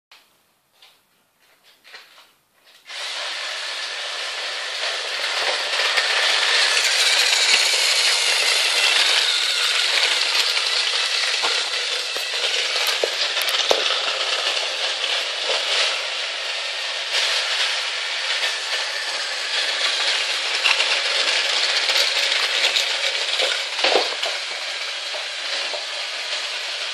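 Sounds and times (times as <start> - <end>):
toy train motor whirring: 2.9 - 26.9.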